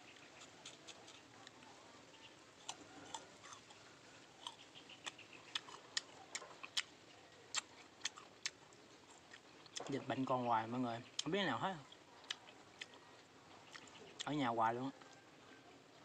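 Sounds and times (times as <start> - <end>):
crunching of fruit being chewed: 0.0 - 16.0.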